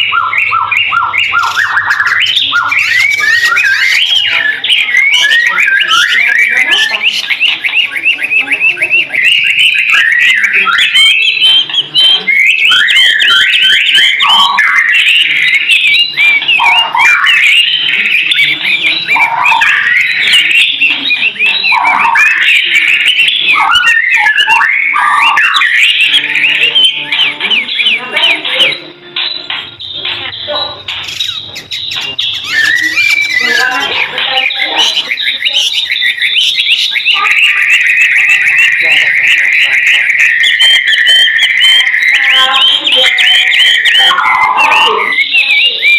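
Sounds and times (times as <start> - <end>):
bird harsh chattering: 0.0 - 45.9
bird singing whistled chirps: 0.0 - 45.9.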